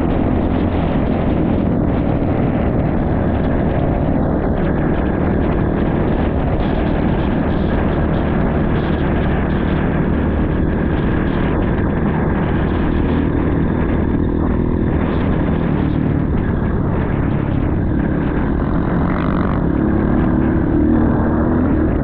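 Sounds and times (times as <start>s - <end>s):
constant rushing noise: 0.0s - 22.0s
motorcycle engine running: 0.0s - 22.0s.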